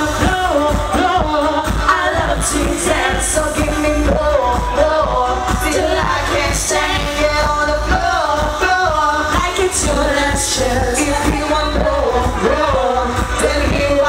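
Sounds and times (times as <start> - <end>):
amplified backing music with beat: 0.0 - 14.0
woman singing pop song: 0.0 - 14.0.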